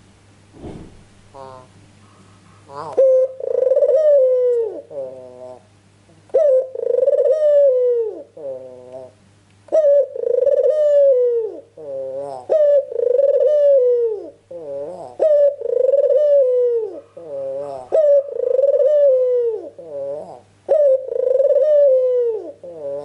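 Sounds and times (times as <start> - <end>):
dove cooing: 1.3 - 1.8, 2.7 - 23.0.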